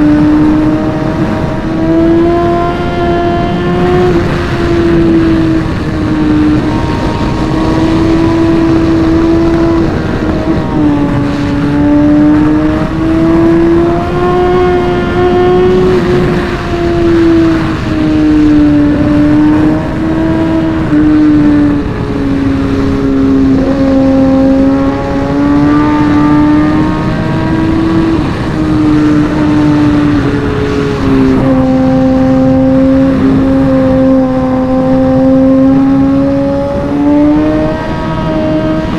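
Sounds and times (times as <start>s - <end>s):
motorcycle engine shifting gears: 0.0s - 38.9s
wind rush: 0.0s - 38.9s.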